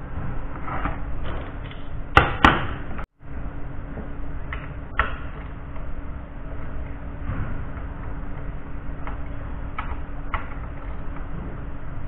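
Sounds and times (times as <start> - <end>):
low shop hum: 0.0 - 12.0.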